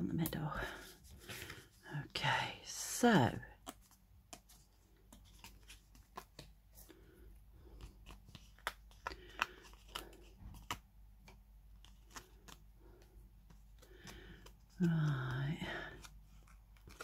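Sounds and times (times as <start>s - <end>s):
paper rustling: 0.7s - 1.8s, 3.6s - 17.0s.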